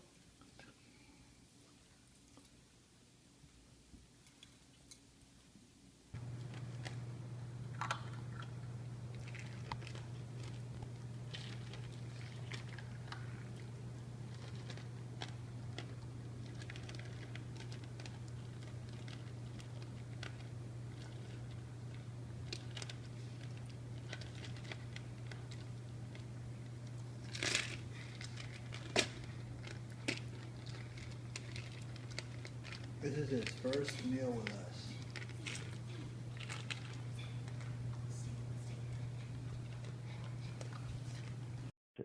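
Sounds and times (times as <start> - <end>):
puppy crunching food: 6.2 - 41.6
steady low hum: 6.2 - 41.7.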